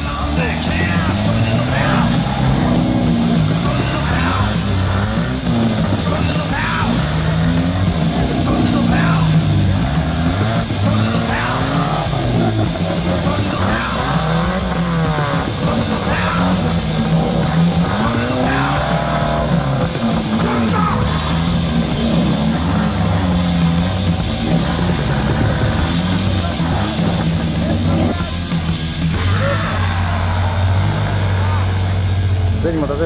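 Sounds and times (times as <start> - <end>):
engine revving: 0.0 - 33.0
rock music: 0.0 - 33.0.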